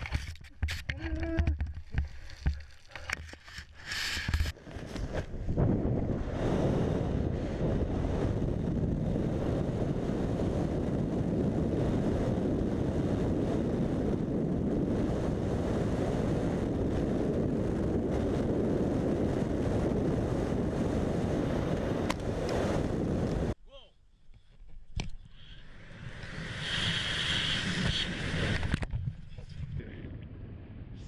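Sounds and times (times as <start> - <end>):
wind rushing over microphone: 0.0 - 23.6, 25.6 - 31.0.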